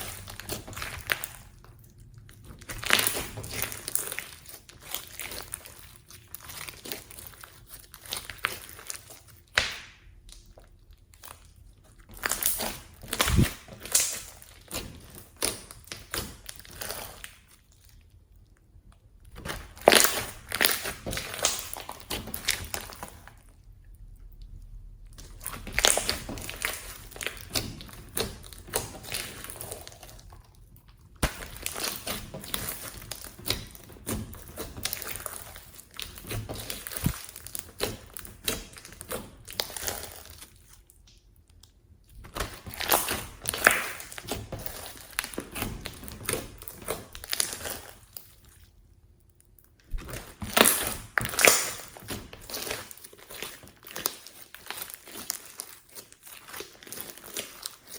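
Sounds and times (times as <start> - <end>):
slime squished by hand: 0.0 - 48.8, 49.4 - 57.9.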